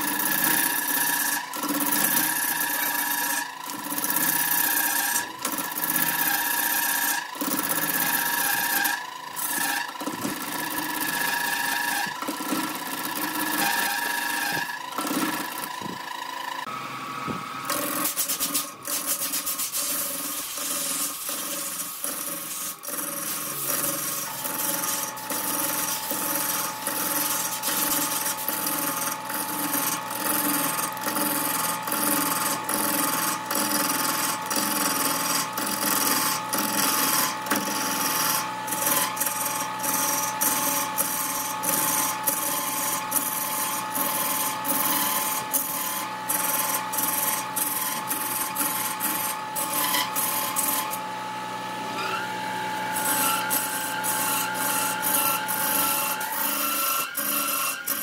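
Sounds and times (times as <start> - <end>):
lathe tool scraping wood: 0.0 - 58.0.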